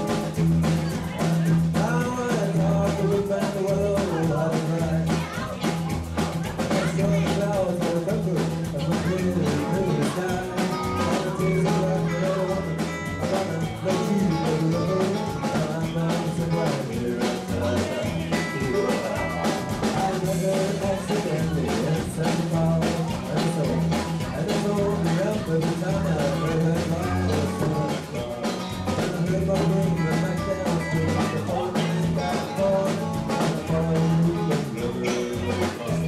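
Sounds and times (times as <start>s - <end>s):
country-rock band playing: 0.0s - 36.0s
drum kit beat: 0.0s - 36.0s
person singing: 0.0s - 36.0s.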